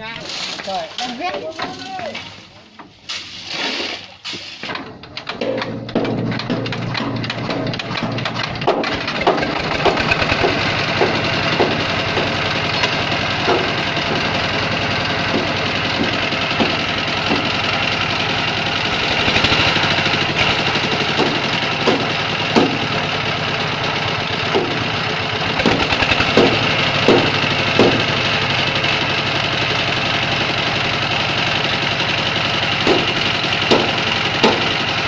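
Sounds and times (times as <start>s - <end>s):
clanks and knocks: 0.0s - 3.3s, 4.3s - 29.6s, 32.5s - 35.0s
diesel engine running: 4.2s - 35.0s.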